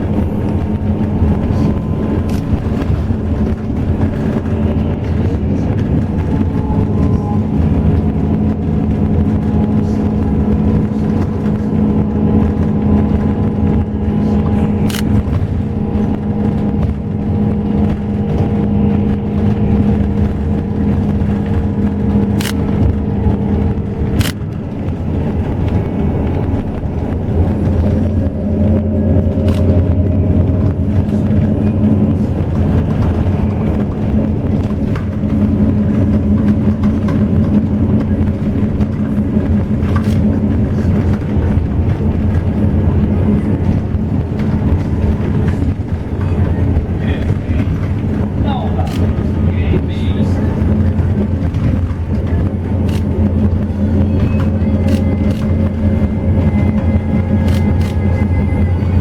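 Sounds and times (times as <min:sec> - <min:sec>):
bus engine humming: 0:00.0 - 0:59.0
sharp clicks and rattles: 0:00.0 - 0:59.0.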